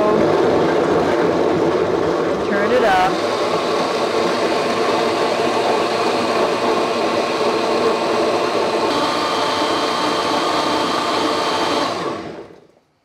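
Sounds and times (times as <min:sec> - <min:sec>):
blender motor running: 0:00.0 - 0:12.6.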